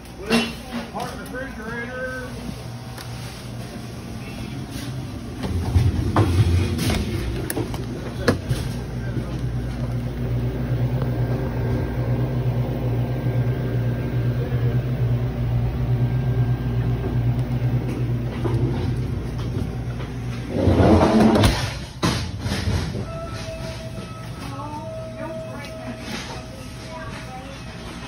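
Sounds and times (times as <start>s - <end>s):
cooling unit humming: 0.0s - 28.0s.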